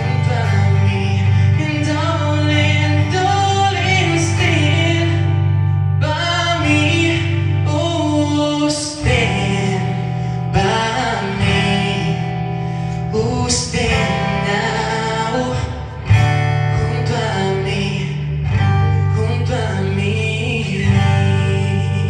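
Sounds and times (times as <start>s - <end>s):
acoustic guitar: 0.0s - 22.0s
man singing into microphone: 0.0s - 22.0s.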